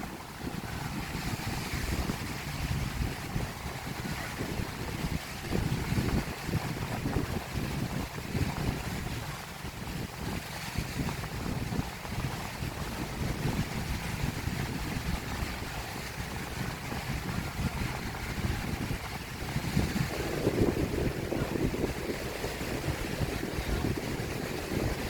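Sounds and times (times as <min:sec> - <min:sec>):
surf washing on beach: 0:00.0 - 0:25.0
wind buffeting microphone: 0:00.0 - 0:25.0.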